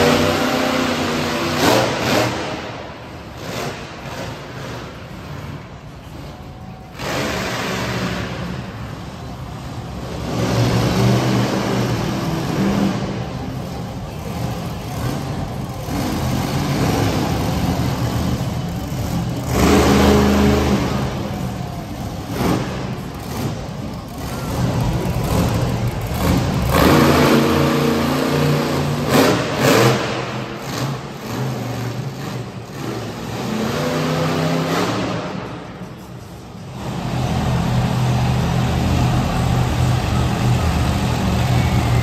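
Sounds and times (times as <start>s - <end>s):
monster truck engine revving: 0.0s - 42.0s.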